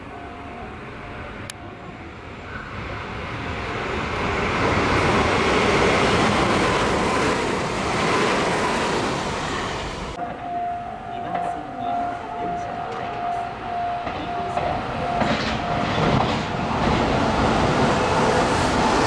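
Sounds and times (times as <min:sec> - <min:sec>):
electric train passing: 0:00.0 - 0:19.0
steady train whine: 0:00.0 - 0:19.0.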